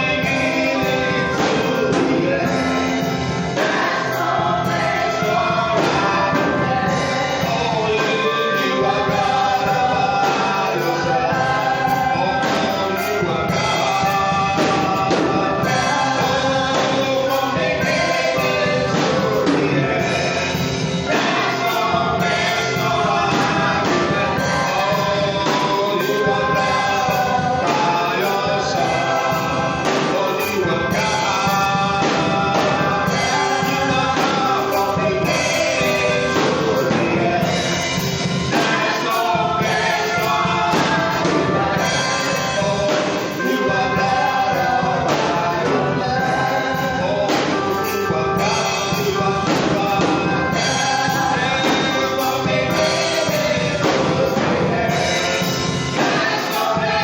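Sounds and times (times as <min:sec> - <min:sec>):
choir singing gospel with band: 0:00.0 - 0:57.0.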